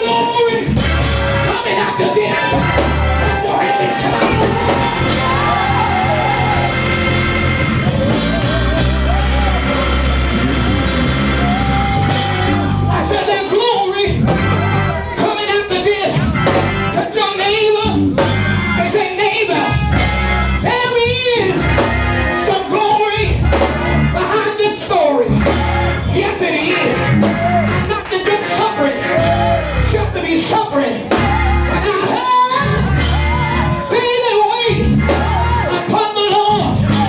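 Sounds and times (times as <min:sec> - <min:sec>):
live band playing groove: 0:00.0 - 0:37.0
voices singing and shouting: 0:00.0 - 0:37.0.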